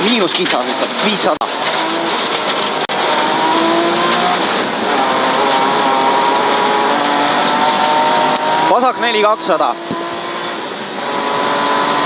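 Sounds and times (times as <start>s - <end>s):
tyres on gravel: 0.0s - 10.6s
rally car engine pulling hard: 0.0s - 12.0s.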